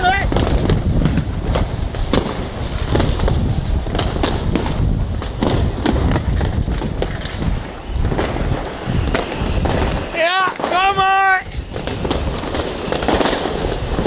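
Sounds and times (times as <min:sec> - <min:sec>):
fireworks bangs and cracks: 0:00.0 - 0:14.0
low rumble: 0:00.0 - 0:14.0.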